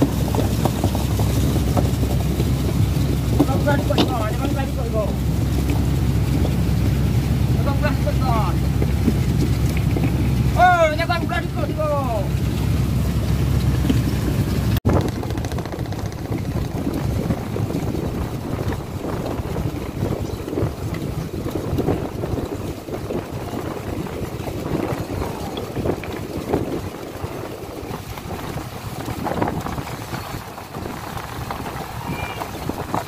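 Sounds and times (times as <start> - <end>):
water rushing along boat hull: 0.0 - 33.0
wind buffeting microphone: 0.0 - 33.0.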